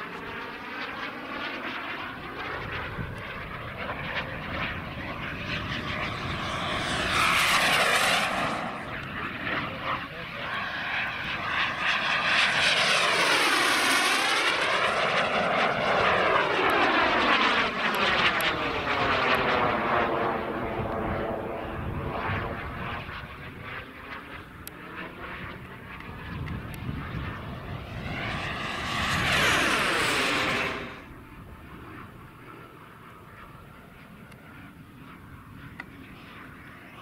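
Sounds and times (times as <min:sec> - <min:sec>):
jet whine of model jet passing: 0:00.0 - 0:37.0.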